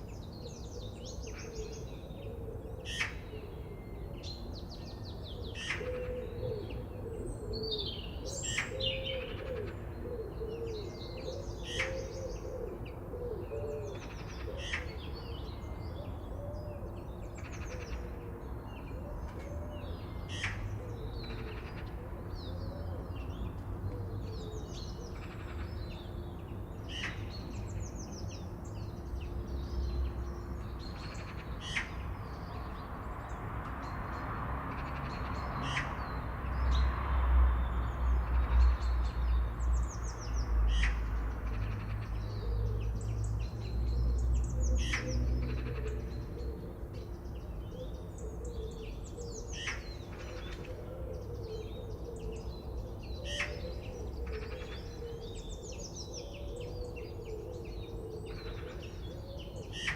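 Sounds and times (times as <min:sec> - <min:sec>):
wild birds singing and calling: 0:00.0 - 0:59.9.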